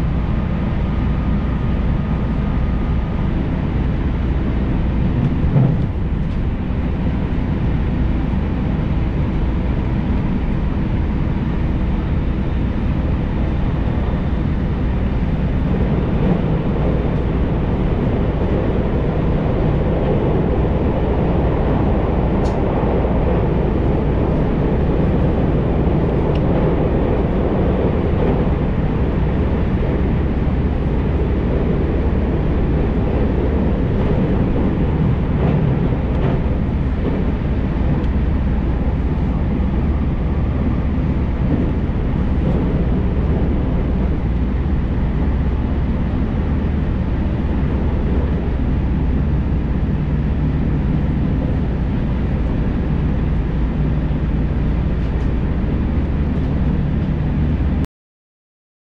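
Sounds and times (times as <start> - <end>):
train wheels rumbling on rails: 0.0 - 57.8.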